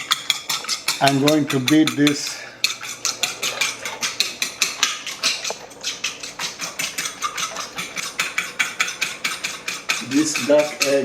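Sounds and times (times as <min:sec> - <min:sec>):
whisk clicking against bowl: 0:00.0 - 0:11.0.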